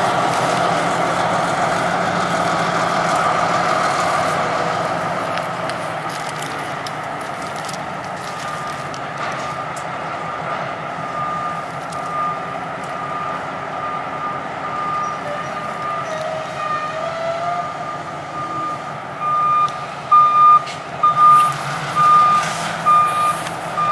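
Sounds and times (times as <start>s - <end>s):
diesel locomotive running: 0.0s - 23.9s.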